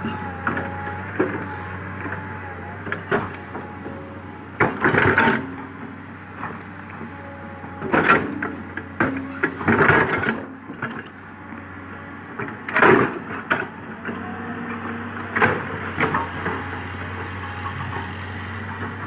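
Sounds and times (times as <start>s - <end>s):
diesel excavator engine running: 0.0s - 19.0s.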